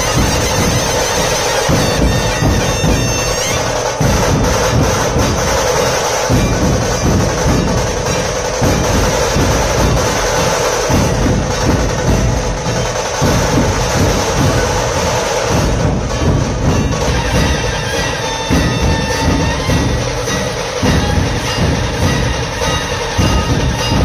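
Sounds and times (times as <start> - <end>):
barrel drums beating: 0.0 - 24.0.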